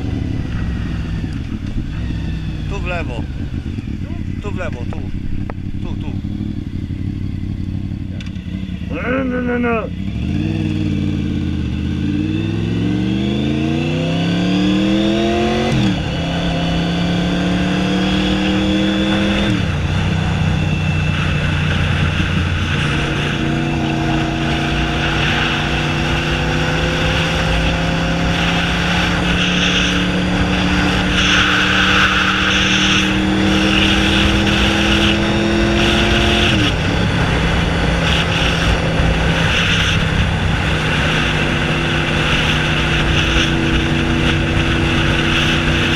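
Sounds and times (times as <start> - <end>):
motorcycle engine accelerating hard: 0.0 - 45.9.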